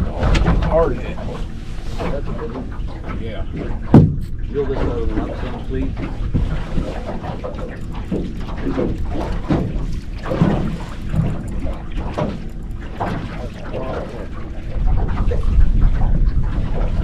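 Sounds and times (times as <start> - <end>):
steady low rumble: 0.0 - 17.0
water splashing against boat: 0.0 - 17.0.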